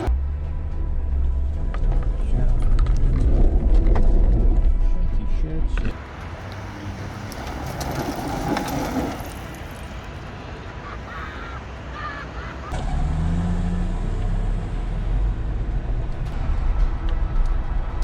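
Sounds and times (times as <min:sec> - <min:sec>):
car engine rumbling: 0:00.0 - 0:10.7, 0:12.7 - 0:18.0.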